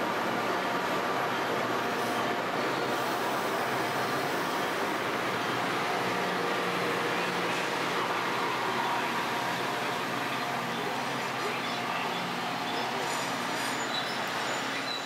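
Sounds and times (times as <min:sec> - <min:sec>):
train engine hum: 0:00.0 - 0:15.0
heavy rain hiss: 0:02.3 - 0:14.7.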